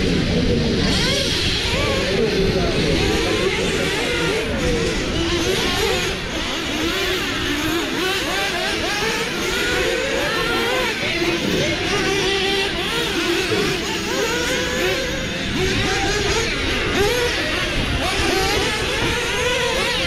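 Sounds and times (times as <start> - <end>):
rc buggy engines revving: 0.0 - 20.0.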